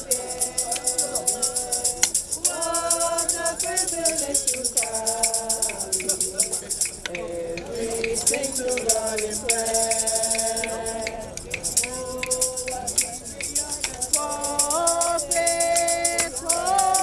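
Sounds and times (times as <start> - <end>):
group singing a hymn: 0.0 - 17.0
shaker or tambourine beat: 0.0 - 17.0.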